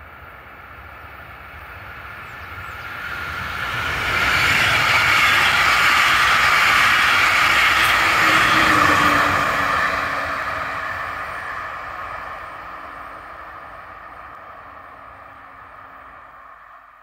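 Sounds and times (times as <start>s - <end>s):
train wheels rolling on rails: 0.4s - 16.8s.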